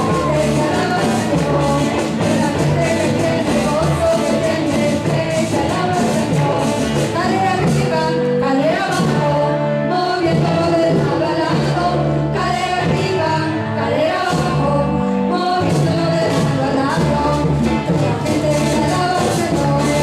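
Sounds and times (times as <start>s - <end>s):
instrumental backing: 0.0s - 20.0s
voices singing: 0.0s - 20.0s.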